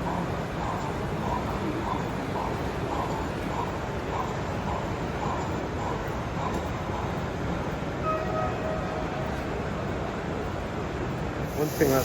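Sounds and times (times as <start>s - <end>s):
exhibition hall crowd hubbub: 0.0s - 12.0s.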